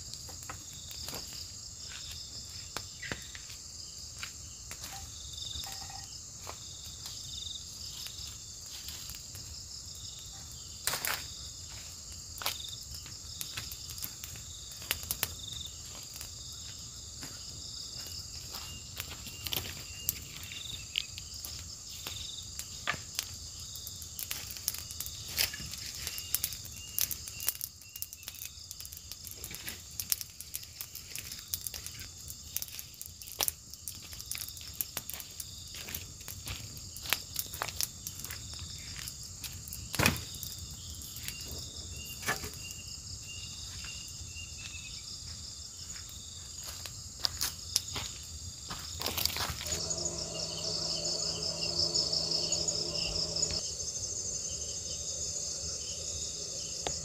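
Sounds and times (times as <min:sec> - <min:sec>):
insects droning: 0:00.0 - 0:57.0
rapid pulsing insect chirp: 0:00.0 - 0:57.0.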